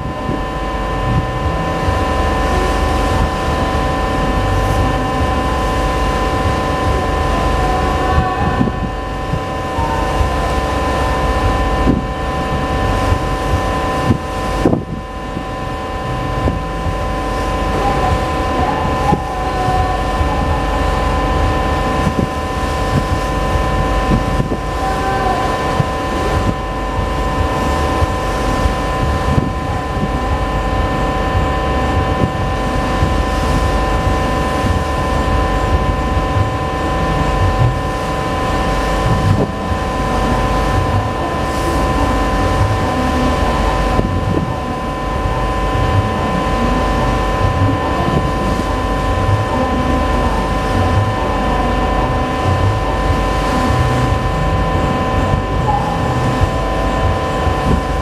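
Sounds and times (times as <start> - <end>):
ship diesel engines droning: 0.0 - 58.0
wind rumbling on microphone: 0.0 - 58.0.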